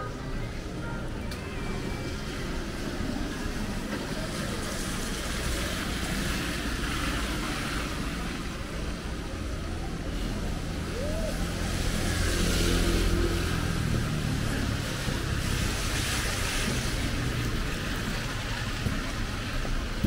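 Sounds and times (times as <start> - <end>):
passing traffic: 0.0 - 20.0.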